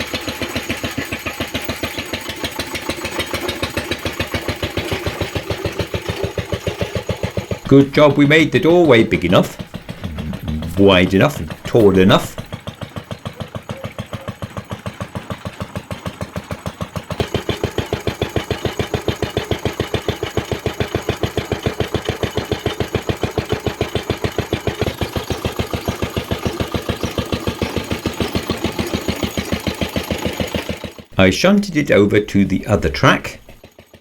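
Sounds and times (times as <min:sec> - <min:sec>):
locomotive engine rapid beat: 0:00.0 - 0:34.0.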